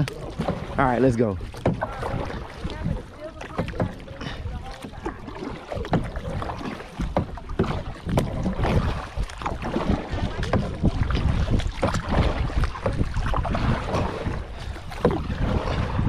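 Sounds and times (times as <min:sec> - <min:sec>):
kayak paddles splashing in water: 0:00.0 - 0:16.0
wind rumbling on microphone: 0:00.0 - 0:16.0.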